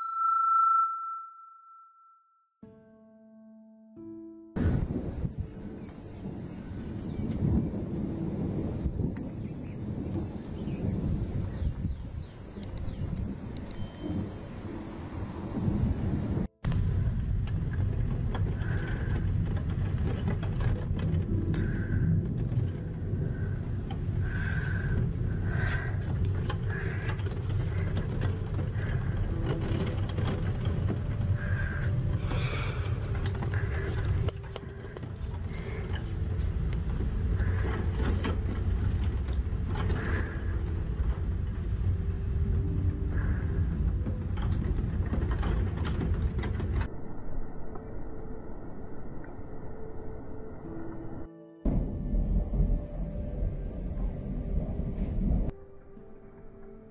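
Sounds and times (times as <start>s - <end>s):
wind buffeting microphone: 4.6s - 55.5s.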